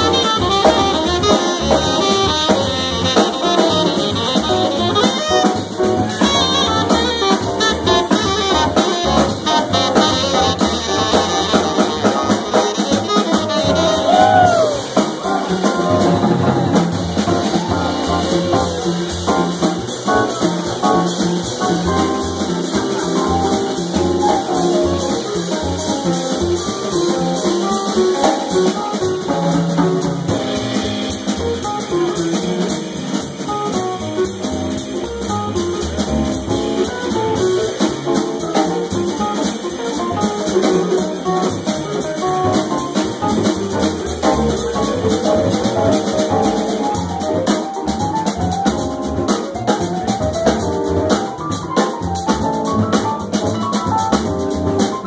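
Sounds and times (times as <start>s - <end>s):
drum kit with cymbals: 0.0s - 55.0s
plucked upright bass: 0.0s - 55.0s.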